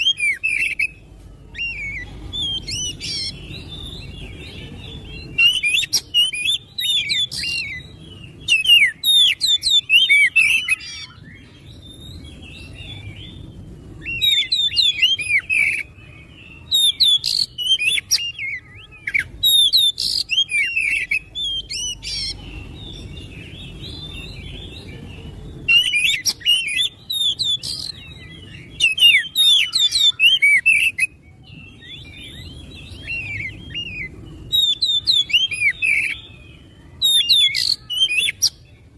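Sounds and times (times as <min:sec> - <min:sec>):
bird singing whistles and chatter: 0:00.0 - 0:38.9.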